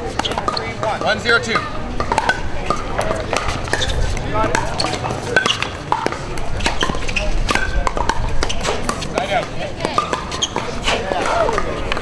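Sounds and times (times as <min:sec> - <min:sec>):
paddles hitting plastic balls: 0:00.1 - 0:12.0.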